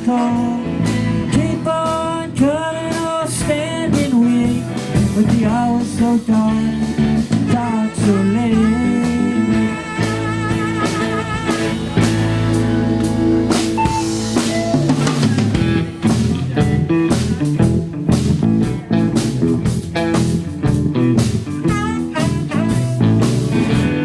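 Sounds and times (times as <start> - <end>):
busy drumming: 0.0 - 24.0
rock band playing: 0.0 - 24.0
wavering guitar notes: 0.0 - 24.0.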